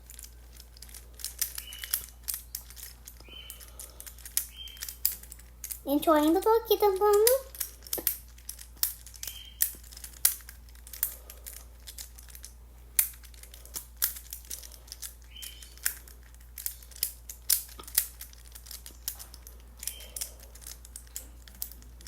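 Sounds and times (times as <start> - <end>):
plastic fidget toy clicking: 0.1 - 22.0.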